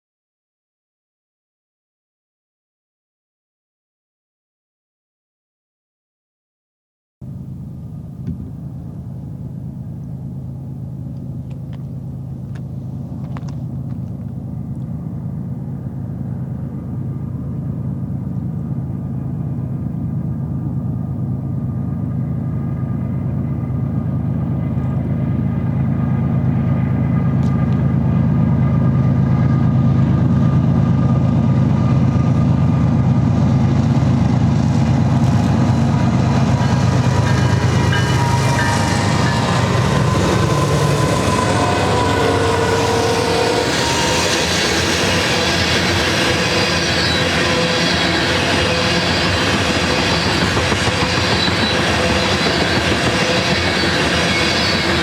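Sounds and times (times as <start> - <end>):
diesel locomotive engine rumble: 7.2 - 55.0
rail and wheel noise: 7.2 - 55.0.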